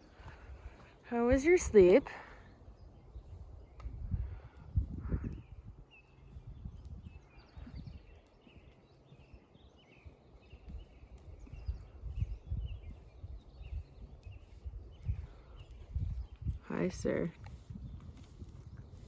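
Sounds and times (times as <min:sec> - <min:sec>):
songbirds chirping: 0:00.0 - 0:19.0
wind rumbling on microphone: 0:00.0 - 0:19.0.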